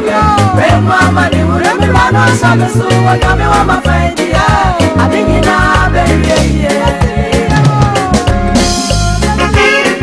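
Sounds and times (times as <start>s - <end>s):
gospel reggae band music: 0.0s - 10.0s.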